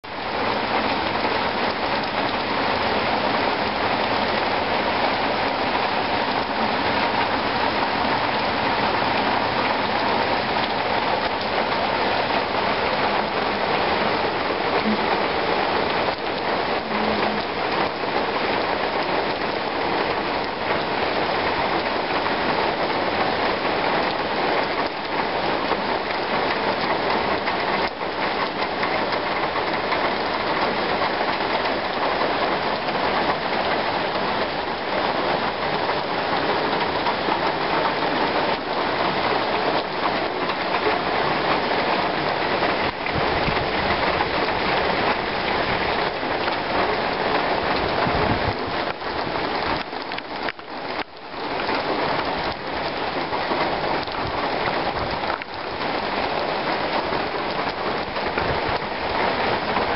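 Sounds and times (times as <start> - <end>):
heavy rain on leafy trees: 0.0 - 59.9.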